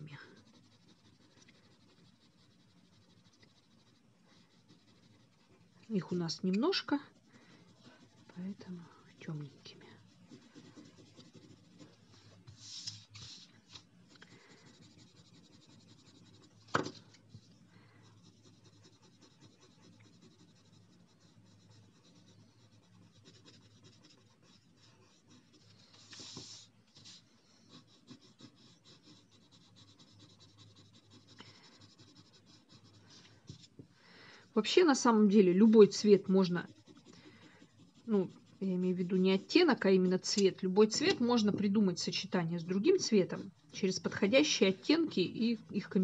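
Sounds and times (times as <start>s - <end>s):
pencil scratching on paper: 0.0s - 33.9s, 34.5s - 46.0s.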